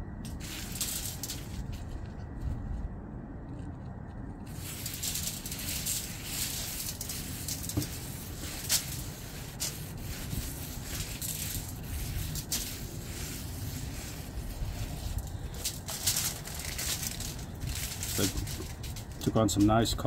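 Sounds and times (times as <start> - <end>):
low rumble: 0.0 - 20.0
seasoning shaker rattling: 0.3 - 1.7, 4.5 - 19.7.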